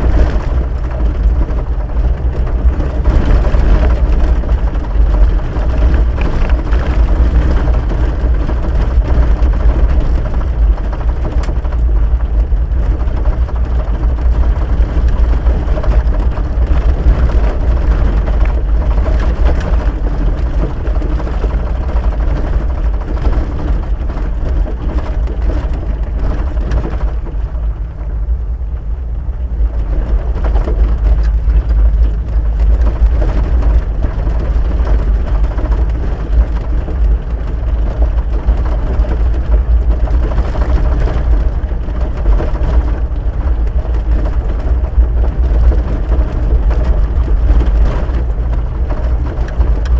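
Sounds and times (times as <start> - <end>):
knocks and rattles: 0.0 - 49.9
vehicle engine and tyre rumble: 0.0 - 49.9.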